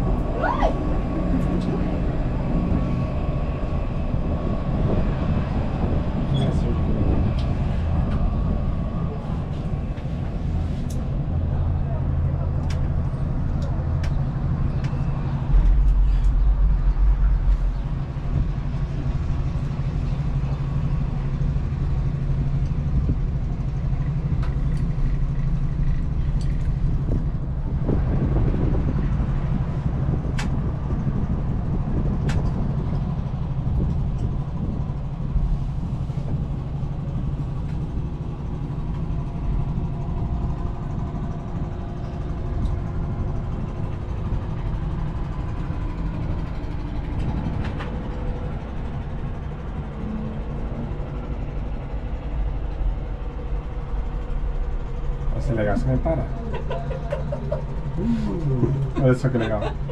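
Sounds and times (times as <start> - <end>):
cable car mechanical hum: 0.0 - 59.9
deep rumble: 0.0 - 59.9.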